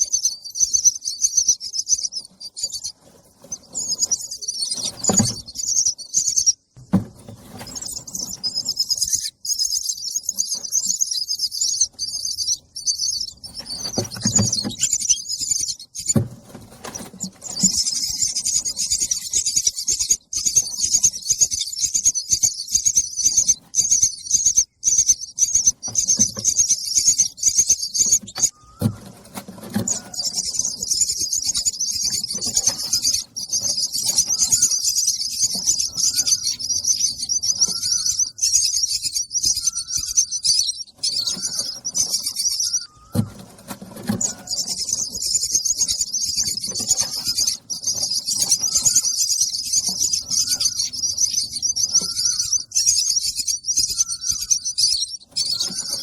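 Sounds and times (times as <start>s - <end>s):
nestlings chirping: 0.0s - 56.0s
rustling: 2.1s - 21.4s, 25.6s - 38.7s, 39.4s - 54.2s.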